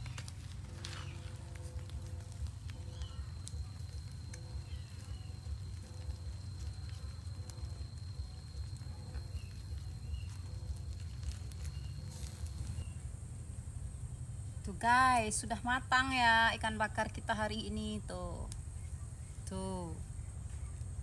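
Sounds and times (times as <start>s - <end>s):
charcoal crackling: 0.0s - 21.0s
steady low rumble: 0.0s - 21.0s.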